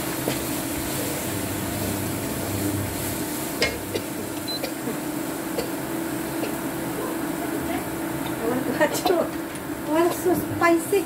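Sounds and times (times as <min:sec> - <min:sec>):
steady hum: 0:00.0 - 0:11.0
stew boiling in a pot: 0:00.0 - 0:11.0.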